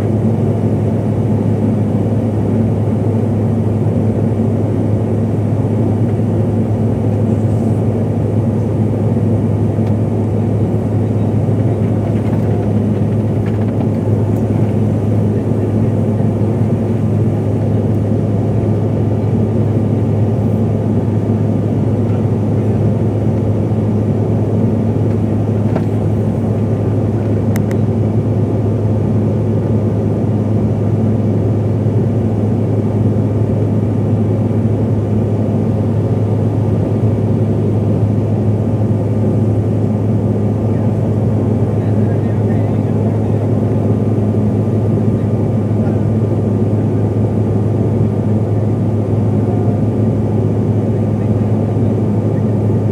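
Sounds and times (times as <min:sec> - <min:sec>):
jet cabin drone: 0:00.0 - 0:52.9.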